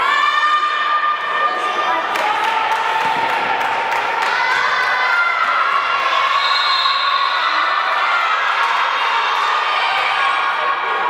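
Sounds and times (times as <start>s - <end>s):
crowd cheering and shouting: 0.0s - 11.0s.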